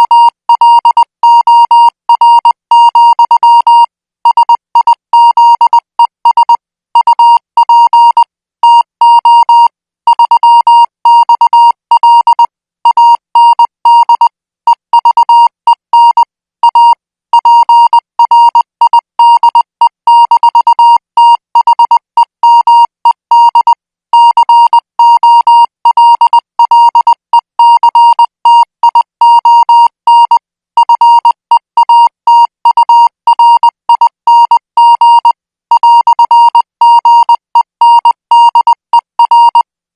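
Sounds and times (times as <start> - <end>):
morse code beeps: 0.0 - 39.7.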